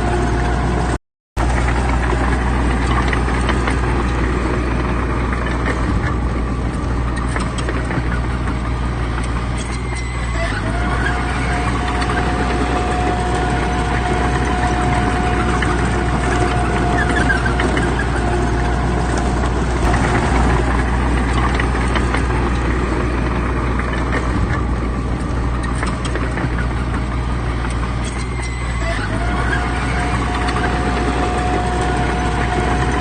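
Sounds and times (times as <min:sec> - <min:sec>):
diesel engine running: 0:00.0 - 0:33.0
high steady whine: 0:00.0 - 0:33.0
light clanks and rattles: 0:01.4 - 0:33.0.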